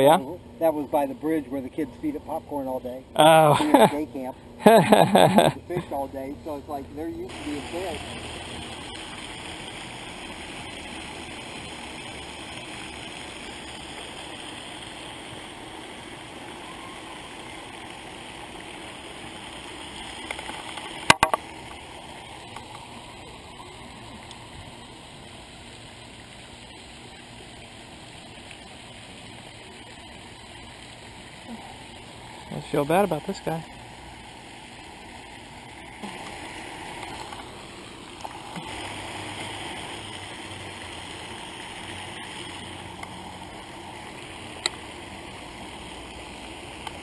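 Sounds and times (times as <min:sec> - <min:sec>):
fountain spray hissing: 0:00.0 - 0:47.0.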